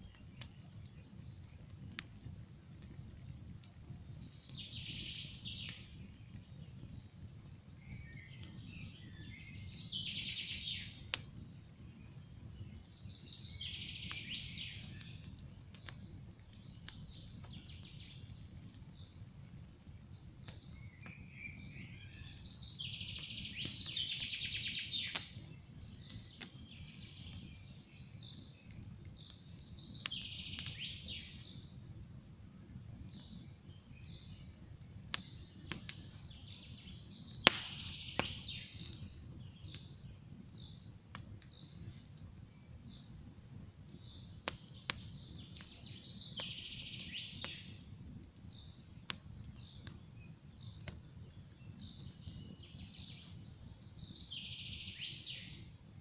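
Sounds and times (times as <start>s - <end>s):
songbird singing: 0.0s - 32.2s, 33.0s - 43.3s, 43.9s - 56.0s
campfire crackling and popping: 0.0s - 56.0s
low rumble of flames: 0.0s - 56.0s.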